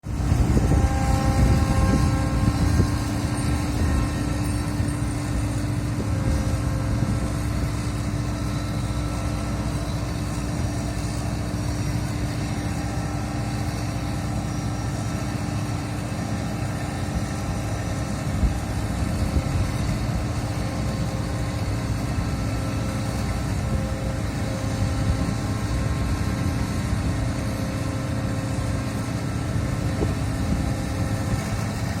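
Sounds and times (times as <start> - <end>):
combine harvester engine drone: 0.0 - 32.0
faint steady tones: 0.1 - 32.0.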